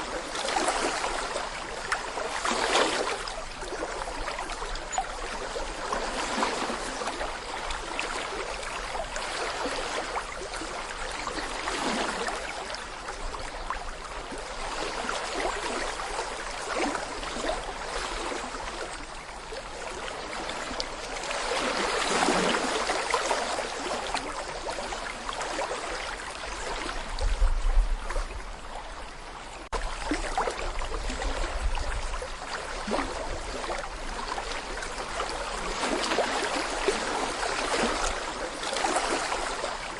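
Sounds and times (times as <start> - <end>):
brook water gurgling over stones: 0.0 - 39.9.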